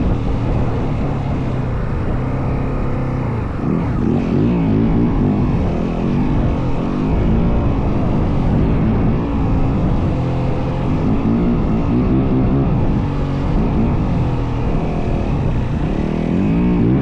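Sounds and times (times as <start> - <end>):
dirt bike engine revving: 2.7 - 17.0.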